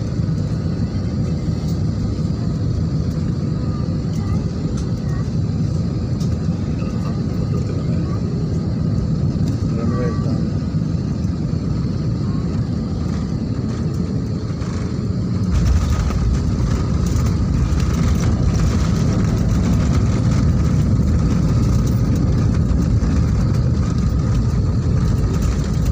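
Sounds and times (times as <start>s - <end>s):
jet airliner engine rumble: 0.0s - 25.9s
plane rolling on runway: 0.0s - 25.9s.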